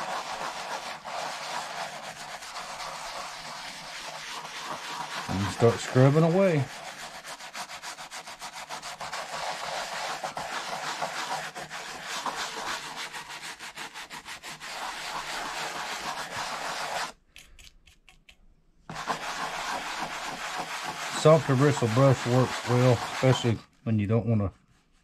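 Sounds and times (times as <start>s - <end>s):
brush scrubbing leather: 0.0s - 17.2s, 18.9s - 23.7s, 24.6s - 25.0s.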